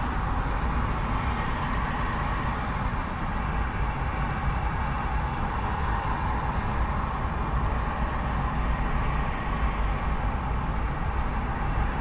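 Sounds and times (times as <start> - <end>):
heavy road traffic rumble: 0.0 - 12.0.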